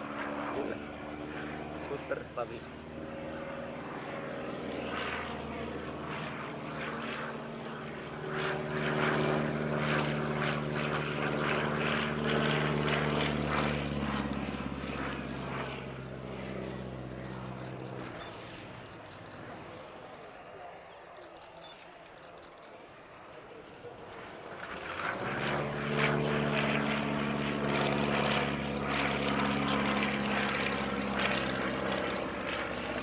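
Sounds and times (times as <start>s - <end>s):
propeller plane droning overhead: 0.0s - 33.0s.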